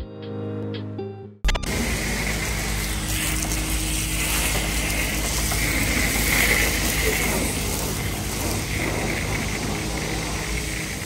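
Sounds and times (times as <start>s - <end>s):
low mechanical hum: 1.5s - 11.0s
pressure washer spraying: 1.6s - 11.0s.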